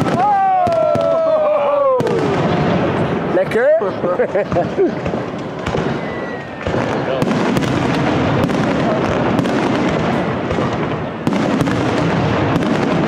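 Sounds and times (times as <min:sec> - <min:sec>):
fireworks bursts and crackle: 0:00.0 - 0:13.0.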